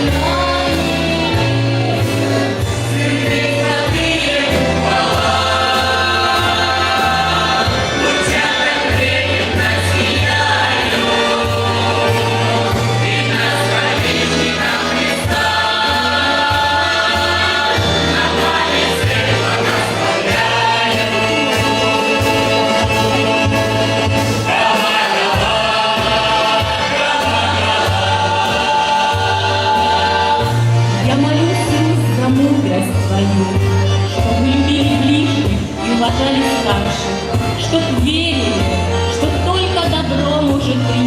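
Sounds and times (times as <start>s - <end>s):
choir singing in harmony: 0.0s - 37.6s.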